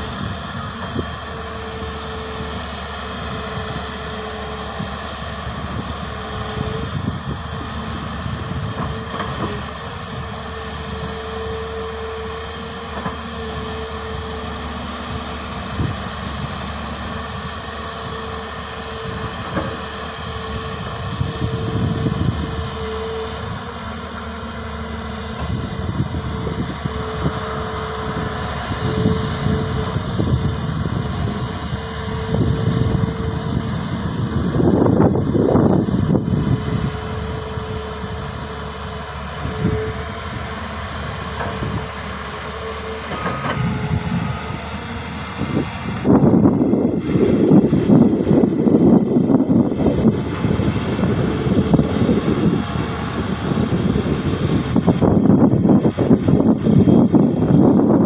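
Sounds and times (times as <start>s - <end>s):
excavator diesel engine running: 0.0s - 58.0s
steady whine: 0.0s - 58.0s.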